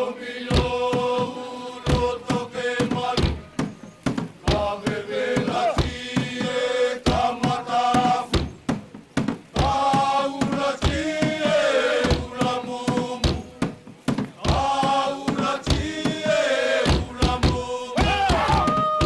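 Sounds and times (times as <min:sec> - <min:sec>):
group of voices chanting: 0:00.0 - 0:08.5, 0:09.5 - 0:13.8, 0:14.4 - 0:19.0
sharp percussive strikes: 0:01.9 - 0:18.8.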